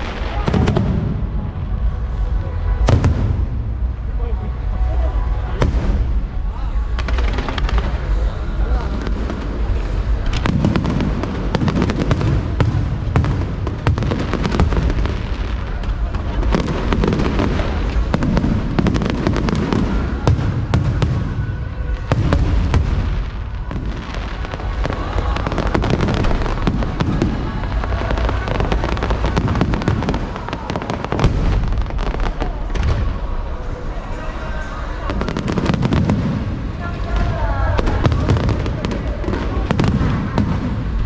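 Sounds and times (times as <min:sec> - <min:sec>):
low rumble of booms: 0:00.0 - 0:33.7
fireworks bangs and crackling: 0:00.0 - 0:41.0.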